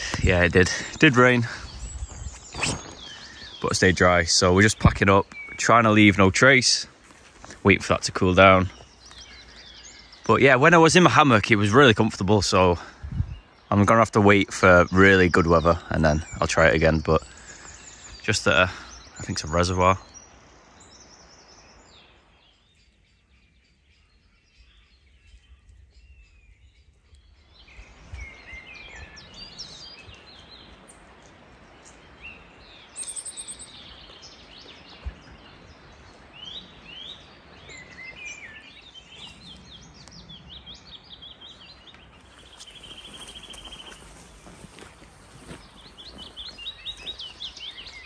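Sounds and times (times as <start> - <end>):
birds chirping and trilling: 0.0 - 48.0.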